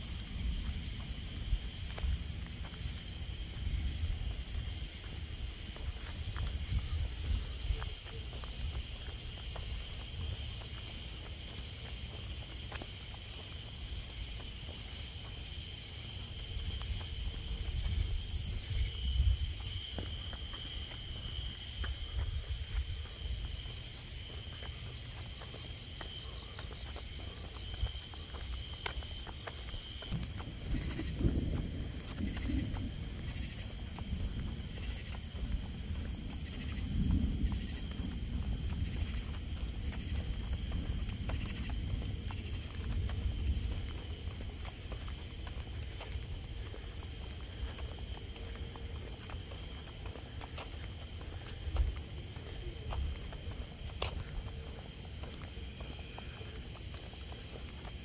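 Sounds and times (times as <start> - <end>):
night insects chirring: 0.0 - 58.0.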